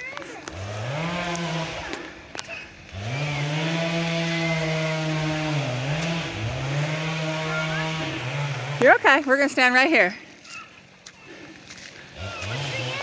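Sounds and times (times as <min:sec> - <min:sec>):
chainsaw revving: 0:00.0 - 0:10.2, 0:12.0 - 0:13.0.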